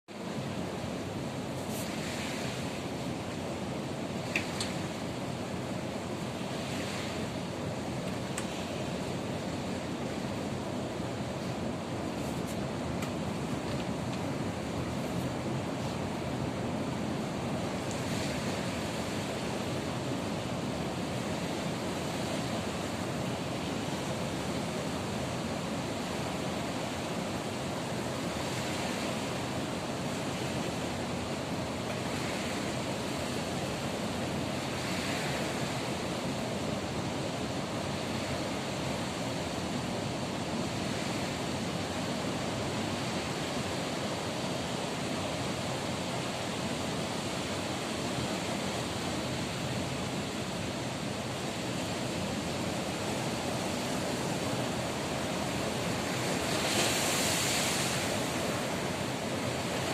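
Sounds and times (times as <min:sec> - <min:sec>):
ocean waves breaking: 0:00.1 - 0:59.9.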